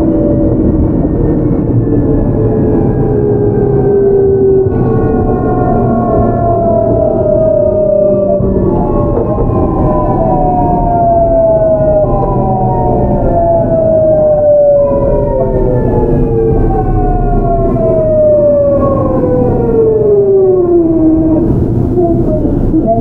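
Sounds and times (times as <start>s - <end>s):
train inverter whine: 0.0s - 23.0s
train wheel rumble: 0.0s - 23.0s.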